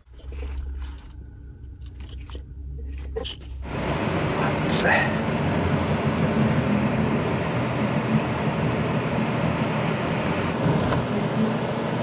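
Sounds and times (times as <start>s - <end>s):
drivetrain hum: 0.0s - 12.0s.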